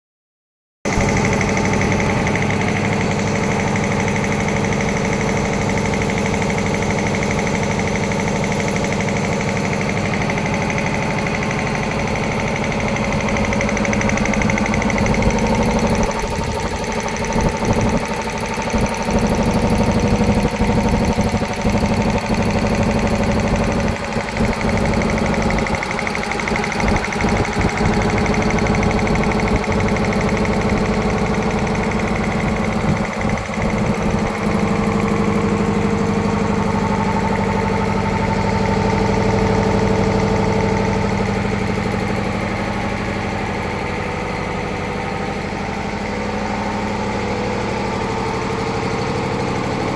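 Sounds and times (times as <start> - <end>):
air compressor running: 0.9 - 49.9.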